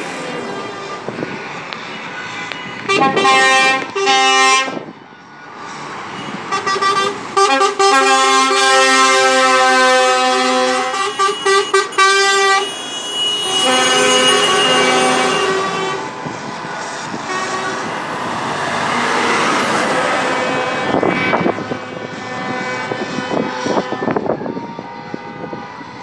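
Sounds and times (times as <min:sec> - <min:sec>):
truck air horns blowing: 0:00.6 - 0:16.4, 0:17.1 - 0:18.0, 0:20.3 - 0:26.0.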